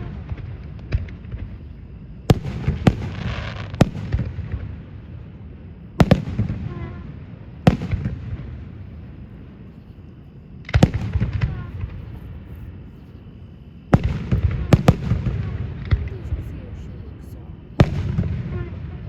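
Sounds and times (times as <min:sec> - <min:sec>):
fireworks crackling: 0:00.0 - 0:09.9, 0:10.6 - 0:13.0, 0:13.9 - 0:19.0.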